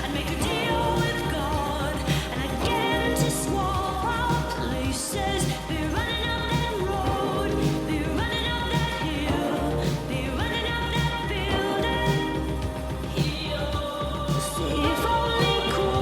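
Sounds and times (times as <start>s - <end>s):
pop song with woman singing: 0.0s - 16.0s.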